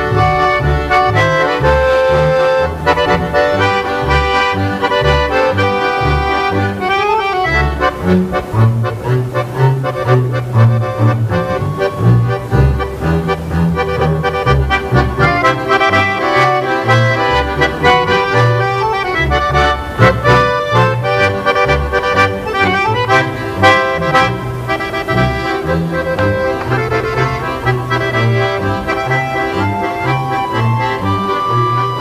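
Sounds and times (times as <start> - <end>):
button accordions playing: 0.0 - 32.0
double bass line: 0.0 - 32.0.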